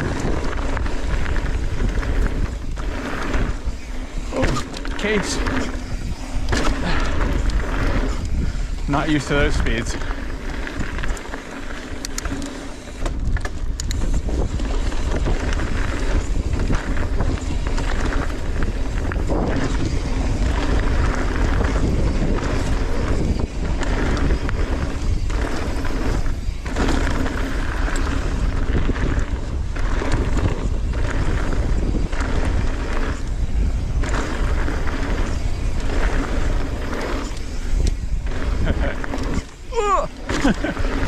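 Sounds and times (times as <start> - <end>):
bike frame rattle: 0.0 - 41.0
bike tyre roar: 0.0 - 41.0
wind rushing over microphone: 0.0 - 41.0.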